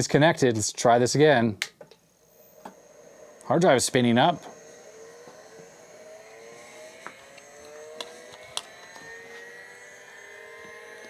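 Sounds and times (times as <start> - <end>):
hard drive whine rising in pitch: 1.9 - 11.0.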